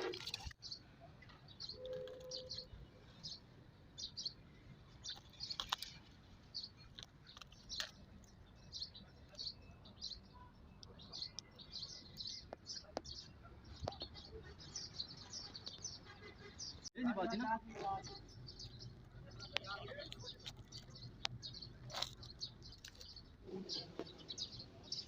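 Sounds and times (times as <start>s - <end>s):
bird chirping: 0.6s - 17.0s, 17.8s - 25.0s.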